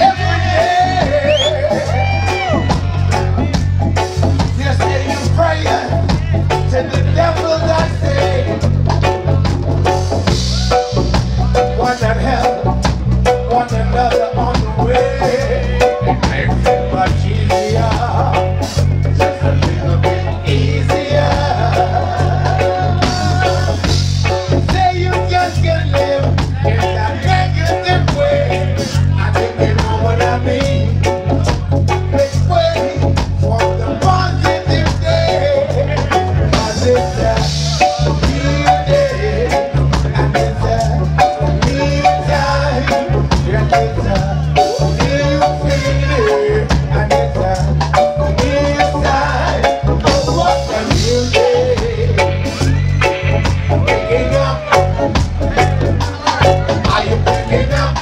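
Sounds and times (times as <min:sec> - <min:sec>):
singers singing: 0:00.0 - 0:09.2, 0:10.4 - 0:58.0
drums and hand percussion: 0:00.0 - 0:58.0
electric guitar: 0:00.0 - 0:58.0
heavy bass line: 0:00.0 - 0:58.0
keyboard: 0:00.0 - 0:58.0
reggae band playing: 0:00.0 - 0:58.0.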